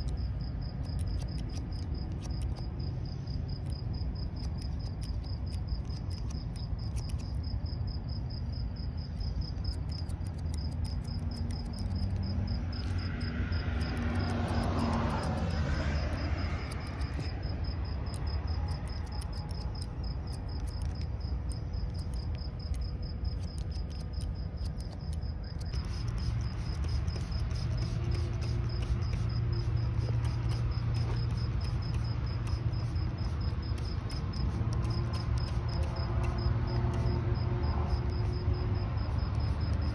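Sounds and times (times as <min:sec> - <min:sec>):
scissors snipping hair: 0:00.0 - 0:07.9, 0:09.0 - 0:39.9
low background rumble: 0:00.0 - 0:39.9
pulsing insect trill: 0:00.0 - 0:39.9.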